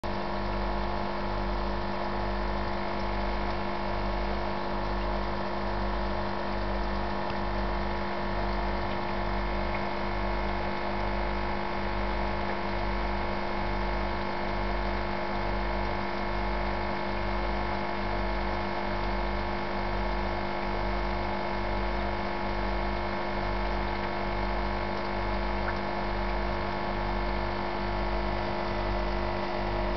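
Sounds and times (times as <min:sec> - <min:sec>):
aquarium pump humming: 0:00.0 - 0:29.9.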